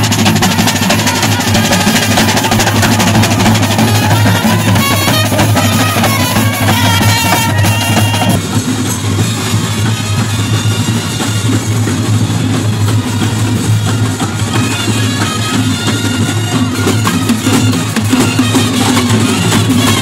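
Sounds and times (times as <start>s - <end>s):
marching brass band playing: 0.0s - 20.0s.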